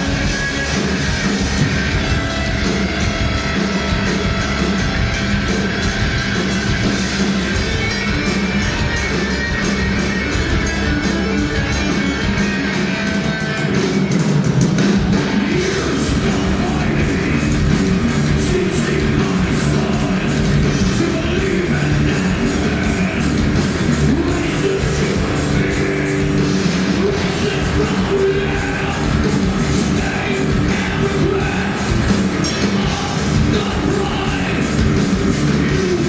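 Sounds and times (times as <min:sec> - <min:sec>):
bass guitar: 0:00.0 - 0:36.0
distorted electric guitar: 0:00.0 - 0:36.0
drum kit with cymbals: 0:00.0 - 0:36.0.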